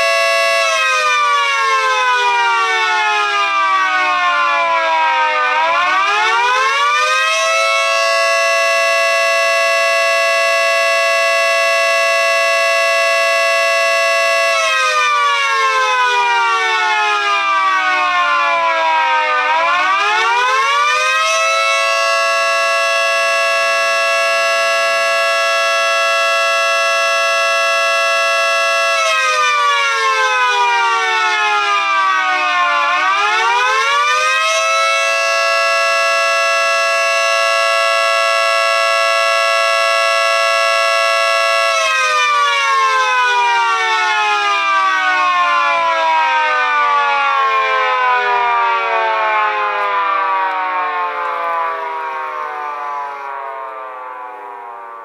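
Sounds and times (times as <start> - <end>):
siren winding up and down: 0.0 - 55.0.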